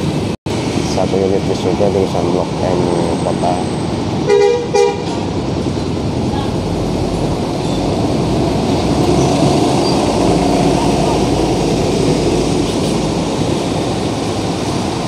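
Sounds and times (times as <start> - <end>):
bus driving past: 0.0 - 15.0
road traffic: 0.0 - 15.0.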